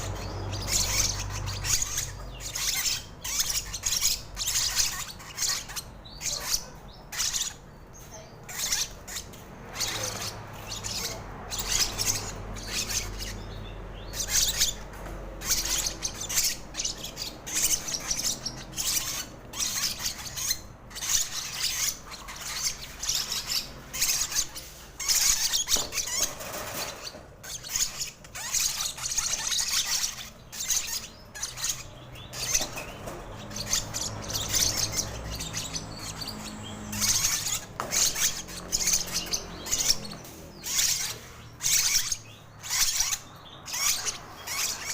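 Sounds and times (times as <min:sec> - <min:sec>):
lovebird raspy begging squeaks: 0:00.0 - 0:44.9.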